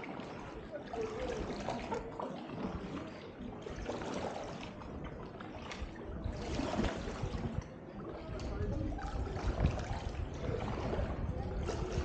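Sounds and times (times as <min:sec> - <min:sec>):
light splashes and lapping: 0:00.0 - 0:12.0
paddle strokes in water: 0:00.0 - 0:12.0
water dripping off paddle: 0:00.0 - 0:12.0.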